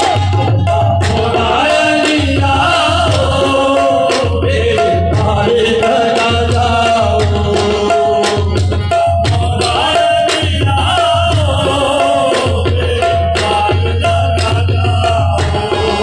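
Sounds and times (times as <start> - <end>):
man singing: 0.0 - 8.6, 9.2 - 16.0
harmoniums playing melody: 0.0 - 16.0
tabla beat: 0.0 - 16.0.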